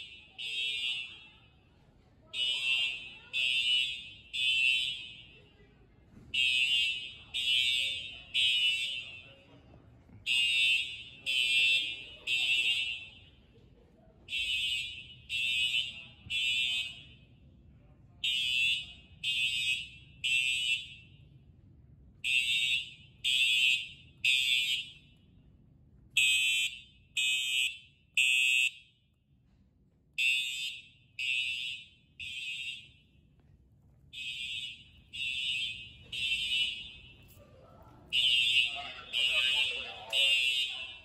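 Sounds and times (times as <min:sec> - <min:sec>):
fire alarm horn blasts: 0:00.0 - 0:05.6, 0:06.3 - 0:09.5, 0:10.2 - 0:13.5, 0:14.3 - 0:25.3, 0:26.1 - 0:29.2, 0:30.2 - 0:33.3, 0:34.1 - 0:41.0.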